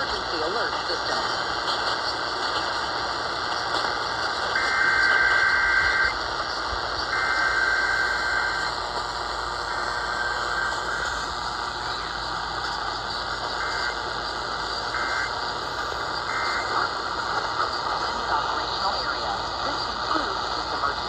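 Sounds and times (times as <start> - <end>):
buzzy two-tone data bursts: 0.0 - 21.0
radio static hiss: 0.0 - 21.0.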